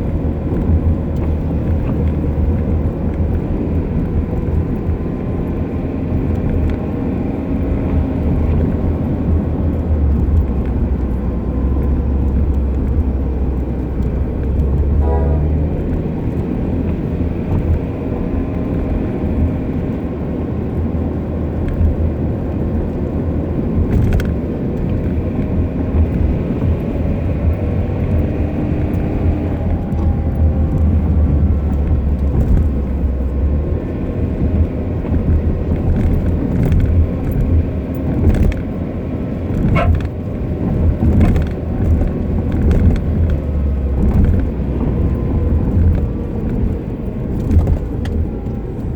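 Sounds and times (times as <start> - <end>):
car road rumble: 0.0 - 48.9.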